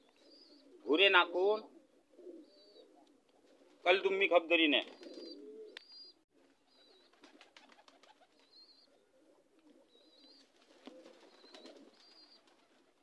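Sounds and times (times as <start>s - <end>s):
pigeons cooing: 0.0s - 3.8s, 4.8s - 13.0s.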